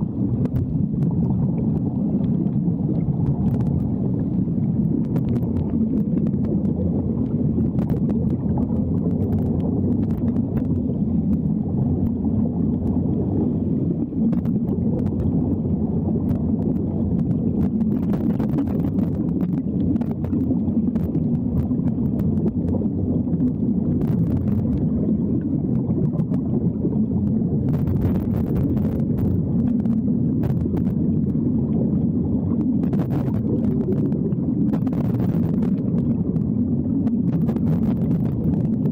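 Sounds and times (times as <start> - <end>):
underwater air bubbles rumbling: 0.0 - 38.9.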